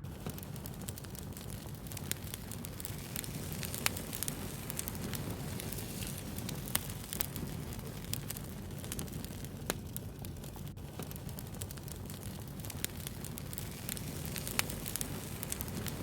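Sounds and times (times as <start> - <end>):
low rush of flames: 0.0 - 16.0
wood fire crackling and popping: 0.0 - 16.0.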